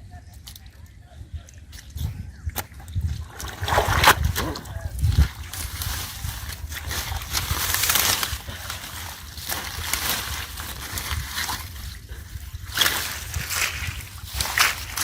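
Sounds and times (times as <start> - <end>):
steady low rumble: 0.0 - 15.0
water sloshing and splashing: 1.6 - 15.0.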